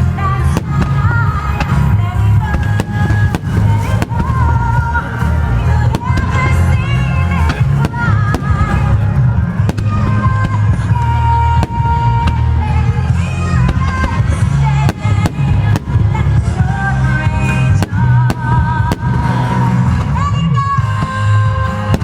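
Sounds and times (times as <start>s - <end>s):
firework bangs: 0.0s - 22.0s
music with steady bass: 0.0s - 22.0s.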